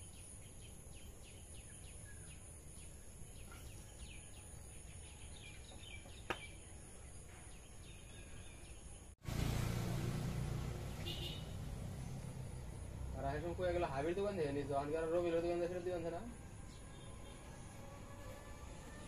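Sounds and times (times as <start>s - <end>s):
small birds chirping: 0.0s - 9.2s, 10.8s - 17.9s.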